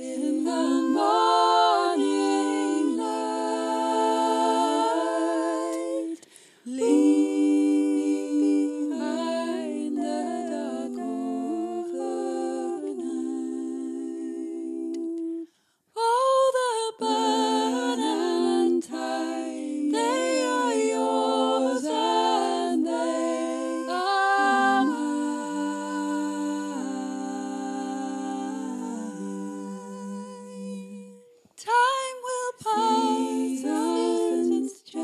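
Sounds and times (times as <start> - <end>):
choir singing in harmony: 0.0 - 35.0.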